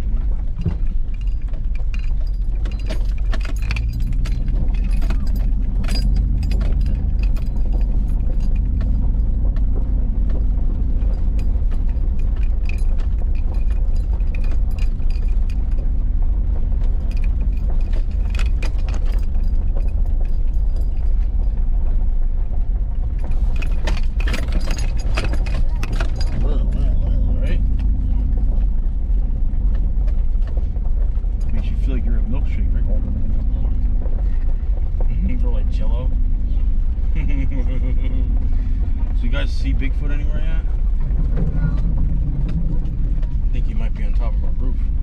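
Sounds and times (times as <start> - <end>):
light rattles and clicks: 0.0 - 45.0
low rumble of engine and tyres: 0.0 - 45.0.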